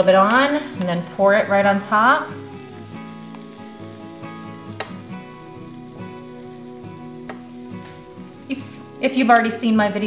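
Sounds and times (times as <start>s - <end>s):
batter sizzling on hot plates: 0.0s - 10.0s
sharp crackles: 0.0s - 10.0s
soft background music: 0.0s - 10.0s.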